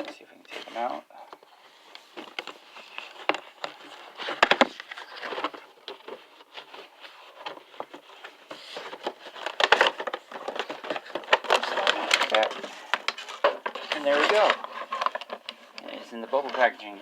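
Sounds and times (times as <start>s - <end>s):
cardboard and plastic packaging handled: 0.0s - 17.0s.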